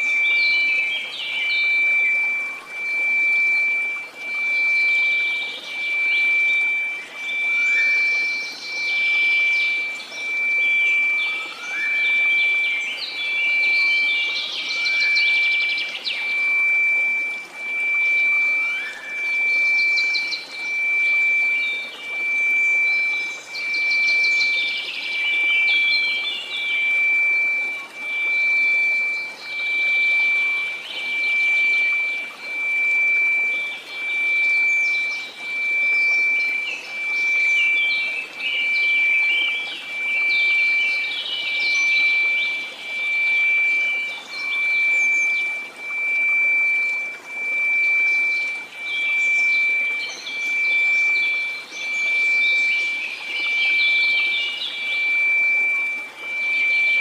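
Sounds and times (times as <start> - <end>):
birdsong chirping and trilling: 0.0 - 57.0
sine tone: 0.0 - 57.0.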